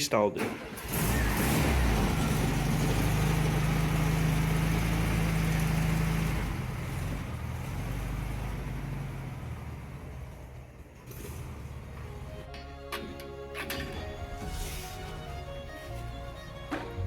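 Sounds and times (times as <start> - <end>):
truck engine running: 0.5 - 17.0.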